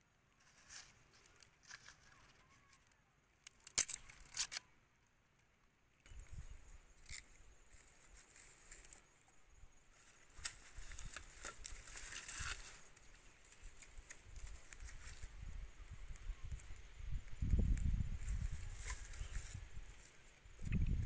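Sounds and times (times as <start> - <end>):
dry grass rustling: 0.0 - 4.7, 6.0 - 21.0.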